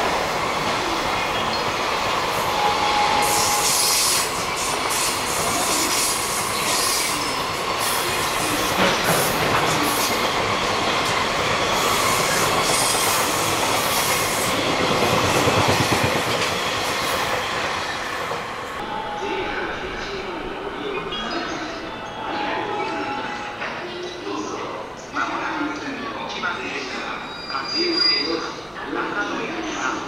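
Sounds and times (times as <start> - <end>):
freight train rumbling past: 0.0 - 25.2.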